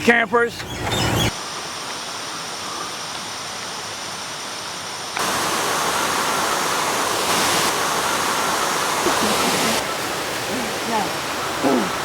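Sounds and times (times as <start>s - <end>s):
running water rushing: 1.4s - 12.0s.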